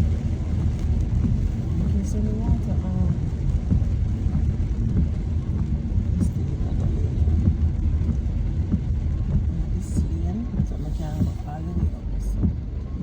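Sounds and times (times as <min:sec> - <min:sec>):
car driving on wet road: 0:00.0 - 0:13.0.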